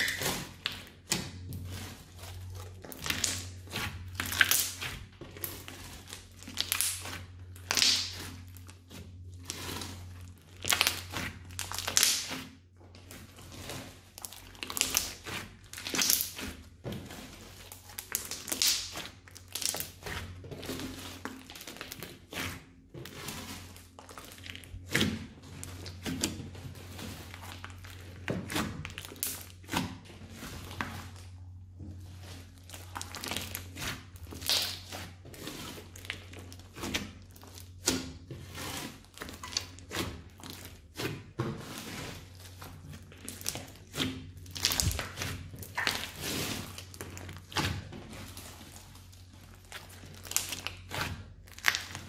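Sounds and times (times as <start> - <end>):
slime squishing and popping: 0.0 - 1.4, 2.8 - 8.7, 9.4 - 12.4, 14.2 - 16.7, 17.5 - 23.2, 24.0 - 31.2, 32.7 - 41.1, 42.4 - 52.0.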